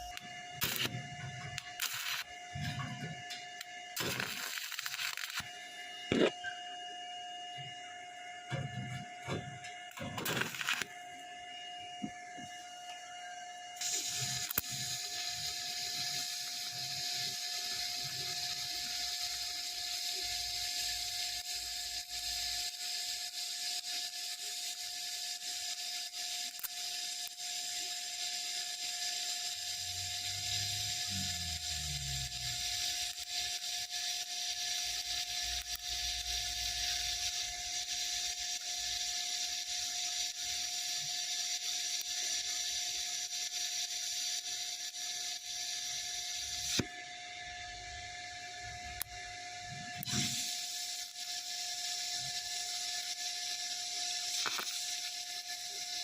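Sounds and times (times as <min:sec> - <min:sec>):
welding arc hiss: 0:00.0 - 0:06.6, 0:08.5 - 0:11.3, 0:13.7 - 0:56.0
faint steady whine: 0:00.0 - 0:56.0.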